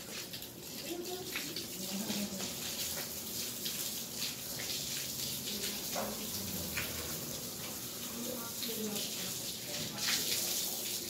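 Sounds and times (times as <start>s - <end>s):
hose water hissing on concrete: 0.0s - 11.0s
water splashes: 0.0s - 11.0s.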